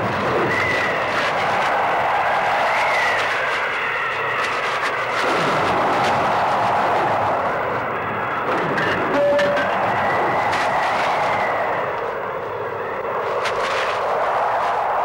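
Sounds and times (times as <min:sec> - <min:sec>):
rushing wind: 0:00.0 - 0:15.0.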